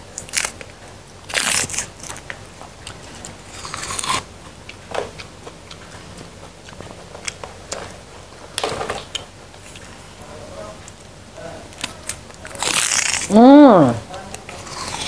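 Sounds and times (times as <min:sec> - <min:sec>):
crunching and chewing seeds: 0:00.0 - 0:13.4, 0:14.1 - 0:15.0.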